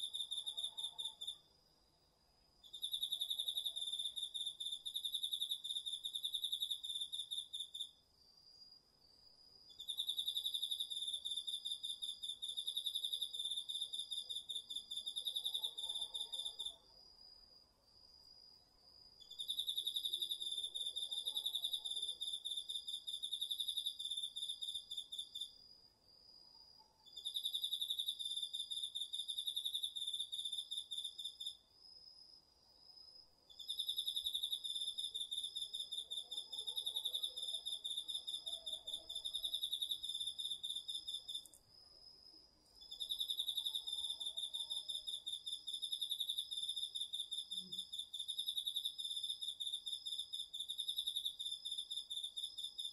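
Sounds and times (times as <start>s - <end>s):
high steady insect trill: 0.0s - 52.9s.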